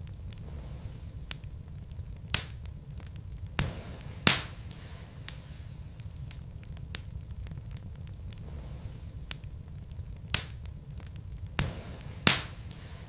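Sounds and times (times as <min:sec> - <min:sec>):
burning logs crackling and popping: 0:00.0 - 0:13.0
fire flames rumbling: 0:00.0 - 0:13.0.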